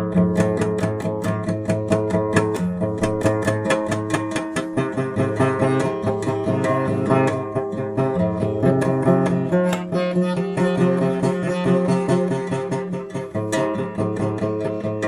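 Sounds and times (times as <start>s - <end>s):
guitar playing instrumental: 0.0s - 15.0s.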